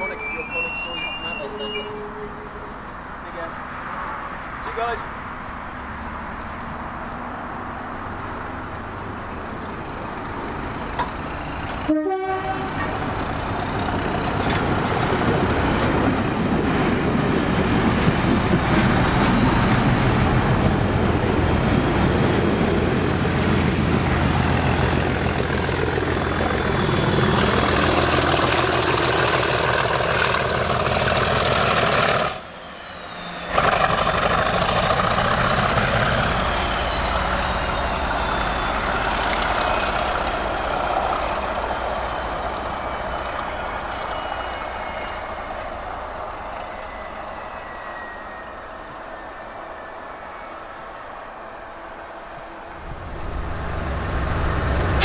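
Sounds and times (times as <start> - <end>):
diesel locomotive engine: 0.0 - 55.0
train passing at speed: 0.0 - 55.0.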